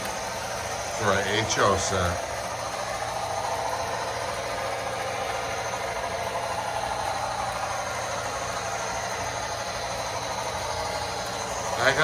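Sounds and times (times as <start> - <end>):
model train engine sounds from speaker: 0.0 - 12.0.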